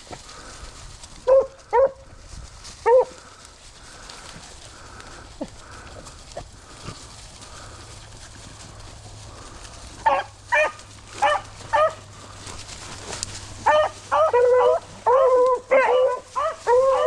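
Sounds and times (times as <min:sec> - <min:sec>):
hounds baying: 0:00.1 - 0:17.0.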